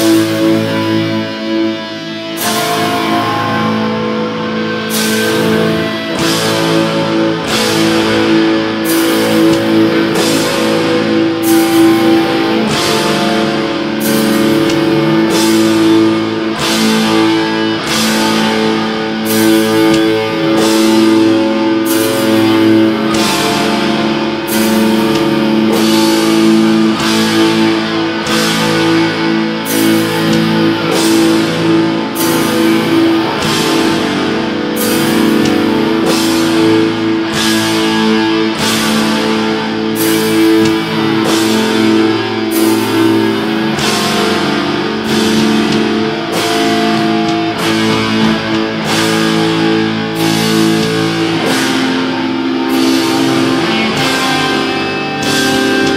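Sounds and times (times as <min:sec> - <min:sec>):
distorted electric guitars: 0:00.0 - 0:55.9
drums: 0:00.0 - 0:55.9.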